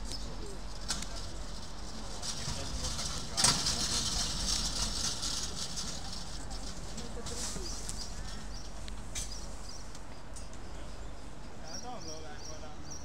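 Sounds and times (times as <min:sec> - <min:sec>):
city street ambience: 0:00.0 - 0:13.0
faint talk of people: 0:00.0 - 0:13.0.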